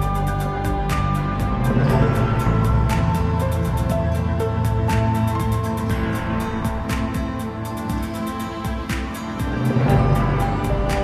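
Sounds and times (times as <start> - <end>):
background music with ticking beat: 0.0 - 11.0.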